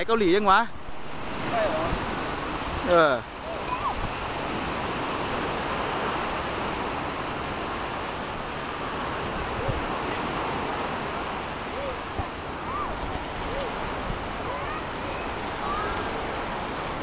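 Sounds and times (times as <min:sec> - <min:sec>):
sea surf rushing: 0:00.0 - 0:17.0
wind: 0:00.0 - 0:17.0.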